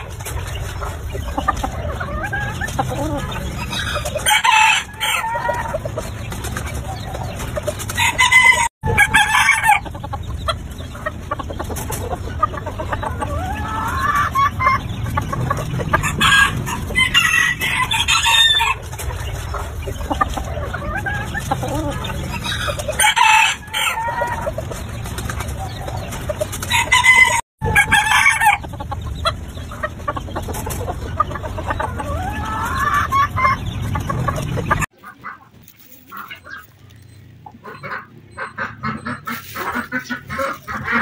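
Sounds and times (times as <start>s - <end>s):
chicken clucking: 0.0s - 41.0s.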